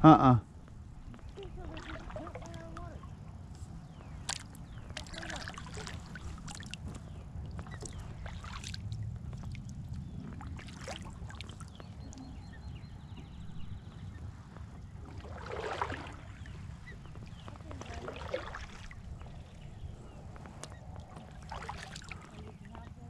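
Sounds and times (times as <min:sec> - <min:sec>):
wind rumble on microphone: 0:00.0 - 0:23.0
kayak paddle splashing: 0:01.0 - 0:12.4, 0:13.5 - 0:23.0.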